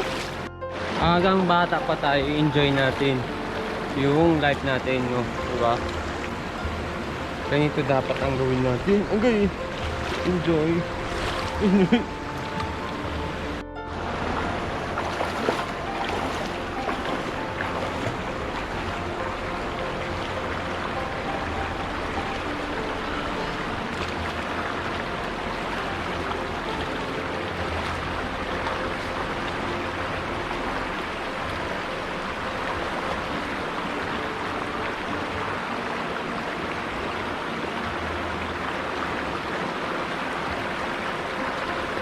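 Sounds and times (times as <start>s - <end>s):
low rumbling: 0.0s - 39.3s
river water rushing: 0.0s - 42.0s.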